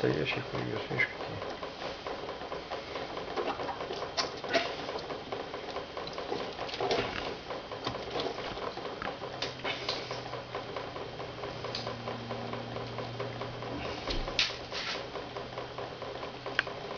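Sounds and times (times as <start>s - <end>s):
low motor hum: 0.0s - 16.9s.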